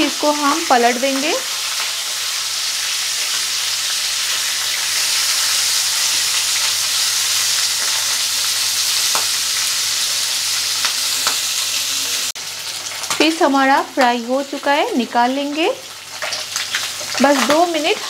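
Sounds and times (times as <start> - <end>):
fish sizzling in hot oil: 0.0 - 18.0.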